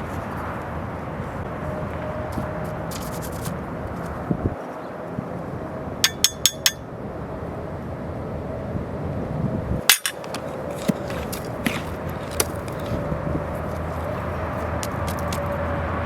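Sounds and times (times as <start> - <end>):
steady background hum: 0.0 - 15.9.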